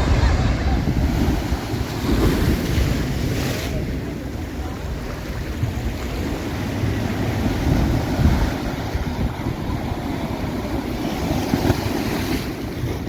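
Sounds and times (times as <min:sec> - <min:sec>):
waves breaking on beach: 0:00.0 - 0:13.0
wind buffeting microphone: 0:00.0 - 0:13.0.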